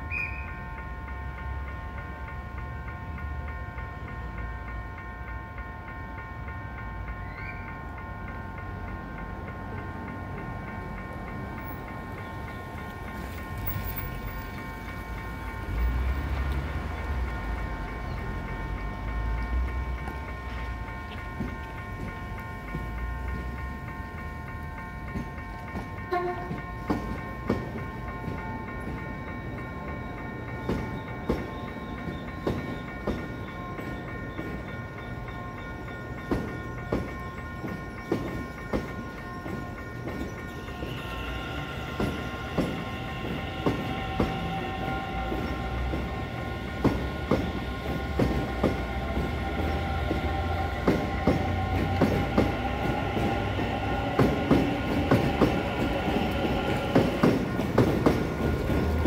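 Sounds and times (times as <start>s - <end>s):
steady high tones: 6.5s - 59.0s
train wheels clacking over rail joints: 9.7s - 59.0s.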